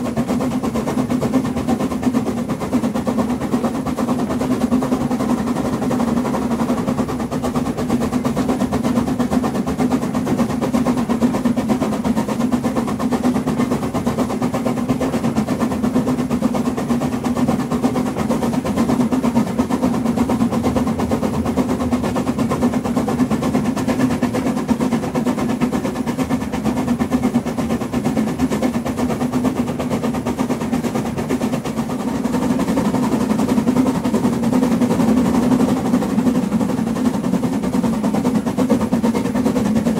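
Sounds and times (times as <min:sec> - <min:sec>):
steam locomotive exhaust beats: 0:00.0 - 0:39.9
wheel noise on rails: 0:00.0 - 0:39.9.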